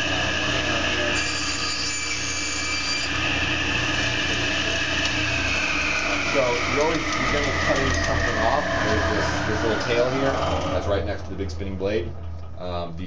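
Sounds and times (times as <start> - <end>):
saw blade whine cutting wood: 0.0 - 12.2
table saw running: 0.0 - 12.4.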